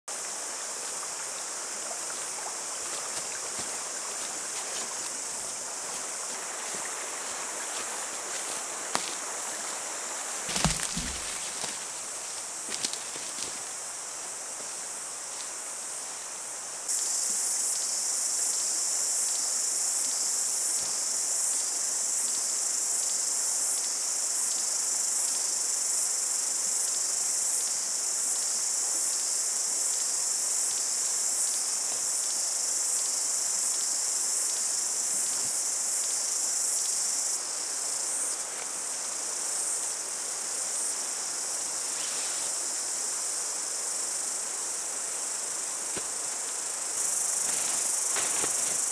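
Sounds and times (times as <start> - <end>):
cicadas droning: 0.1 - 48.9.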